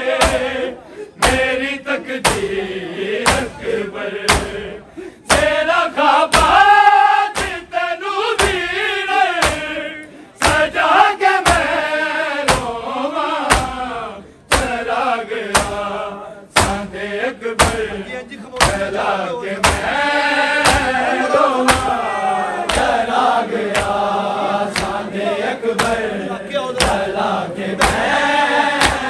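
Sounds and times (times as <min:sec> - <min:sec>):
group of voices chanting a lament: 0:00.0 - 0:29.0
chest-beating thuds: 0:00.1 - 0:05.7, 0:06.3 - 0:10.8, 0:11.4 - 0:29.0.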